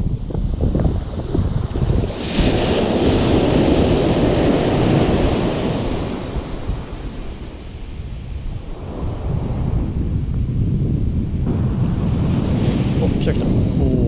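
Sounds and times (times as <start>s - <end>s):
wind buffeting microphone: 0.0s - 14.0s
surf waves breaking on beach: 0.6s - 10.3s, 11.4s - 14.0s.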